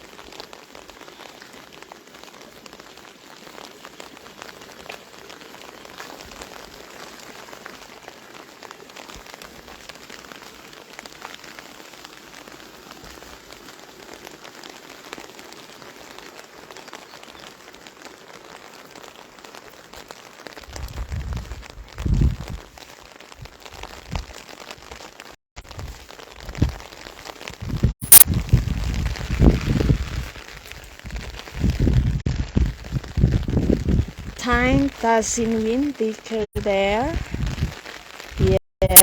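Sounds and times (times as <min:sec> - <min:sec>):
rain pattering: 0:00.0 - 0:39.0.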